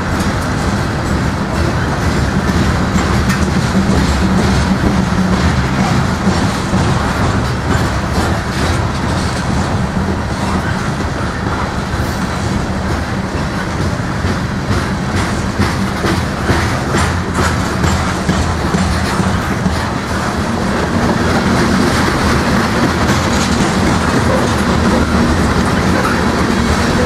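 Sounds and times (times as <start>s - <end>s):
train wheels rumbling on rail: 0.0s - 27.0s
wheels clicking over track: 0.0s - 27.0s.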